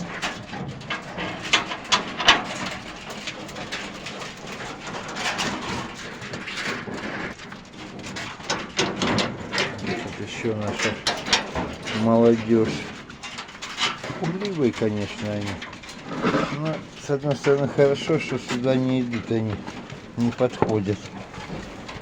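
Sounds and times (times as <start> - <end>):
cage clicks and knocks: 0.0 - 22.0
rustling: 0.0 - 22.0.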